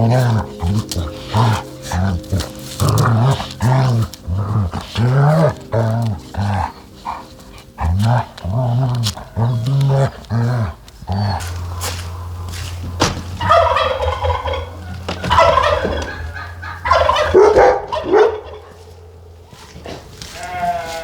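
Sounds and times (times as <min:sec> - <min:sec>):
turkey gobbling: 0:00.0 - 0:10.4, 0:11.0 - 0:20.0
steady low hum: 0:00.0 - 0:20.4.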